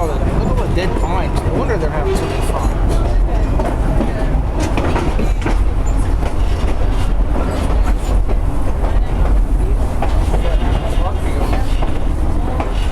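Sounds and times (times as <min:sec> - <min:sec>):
train cars rumbling: 0:00.0 - 0:12.9
wheels clicking over rails: 0:00.3 - 0:12.9.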